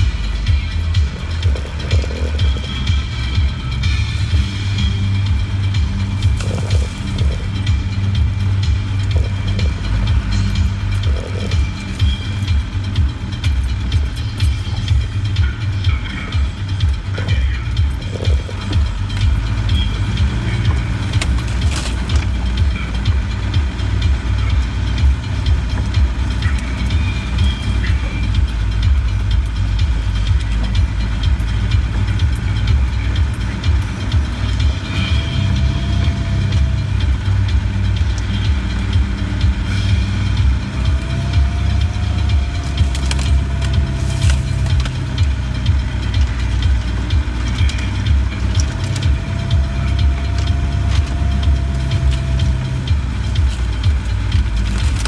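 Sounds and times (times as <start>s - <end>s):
vehicle engine low rumble: 0.0s - 55.0s.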